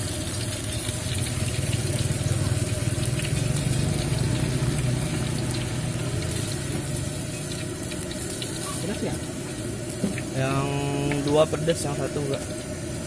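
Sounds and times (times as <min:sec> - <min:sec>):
batter frying in hot oil: 0:00.0 - 0:13.0
low steady rumble: 0:00.0 - 0:13.0.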